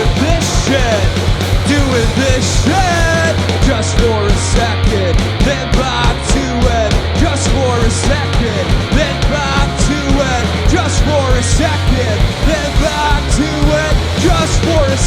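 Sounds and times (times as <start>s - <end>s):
bass guitar: 0.0s - 15.0s
drum kit beat with cymbals: 0.0s - 15.0s
electric guitar bending notes: 0.0s - 15.0s.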